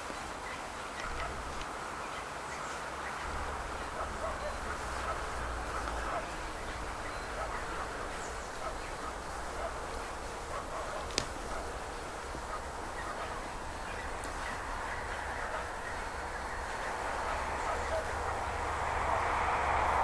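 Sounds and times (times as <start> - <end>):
distant bird calls: 0.0 - 20.0
steady hiss: 0.0 - 20.0
low wind rumble: 0.3 - 20.0.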